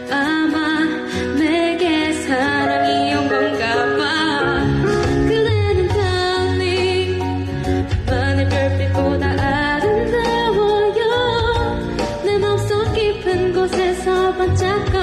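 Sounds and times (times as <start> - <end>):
light musical accompaniment: 0.0 - 15.0
woman singing pop melody: 0.0 - 15.0.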